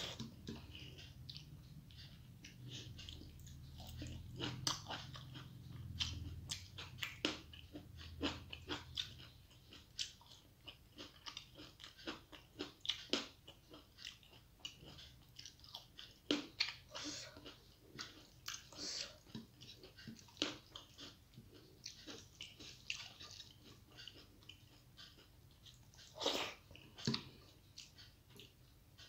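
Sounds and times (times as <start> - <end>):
crunchy chewing: 0.0 - 29.0.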